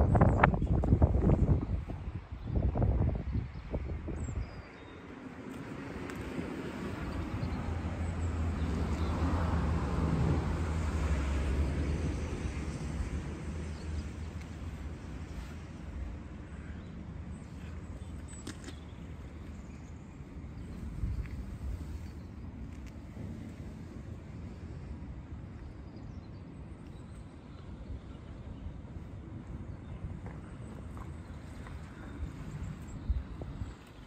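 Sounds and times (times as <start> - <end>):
vehicle engine hum: 5.0 - 34.0.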